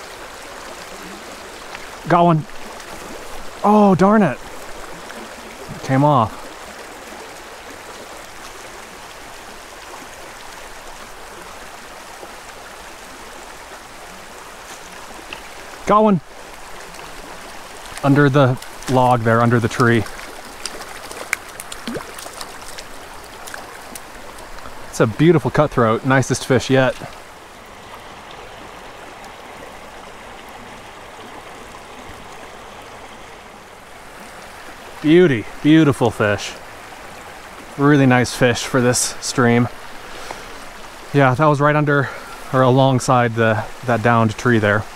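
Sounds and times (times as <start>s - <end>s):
creek water flowing: 0.0s - 44.9s.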